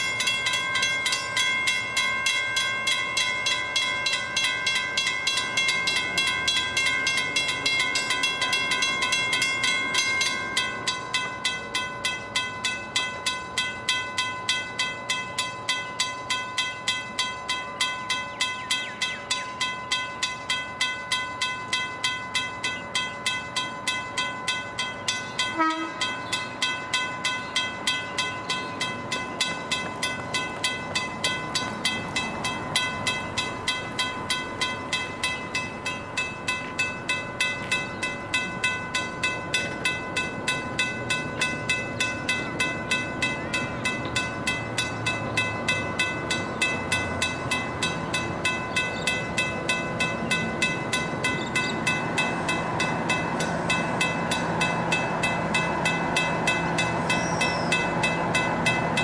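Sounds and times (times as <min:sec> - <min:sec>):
crossing bell ringing rapidly: 0:00.0 - 0:59.0
freight train rumble: 0:00.0 - 0:59.0.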